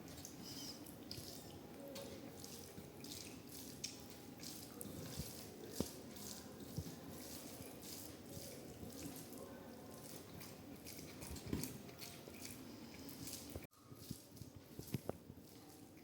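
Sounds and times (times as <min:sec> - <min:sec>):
wet chewing: 0:00.1 - 0:16.0.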